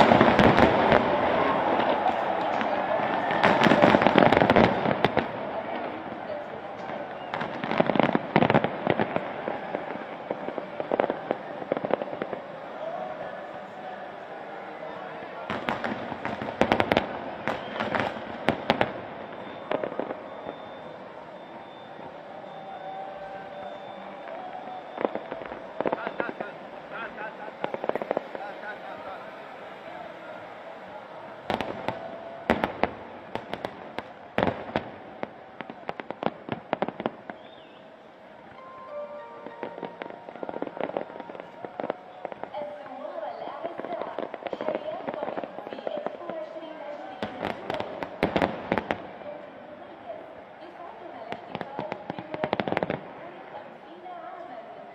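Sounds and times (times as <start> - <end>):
fireworks bursting: 0.0 - 54.5.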